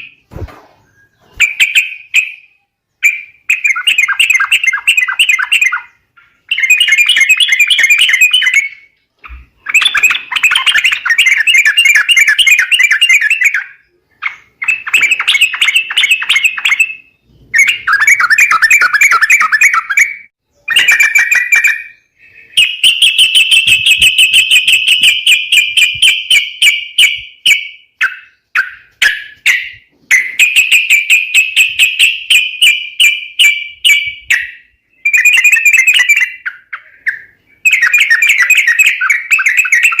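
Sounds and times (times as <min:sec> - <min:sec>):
bird chattering calls: 0:00.8 - 0:40.0.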